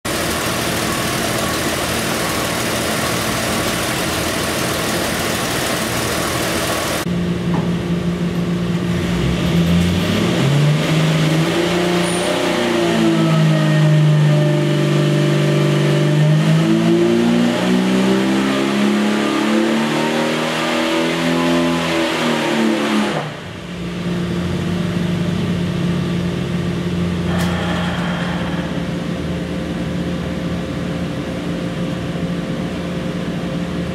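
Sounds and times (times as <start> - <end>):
engine idling and revving: 0.1 - 7.1, 8.4 - 33.9.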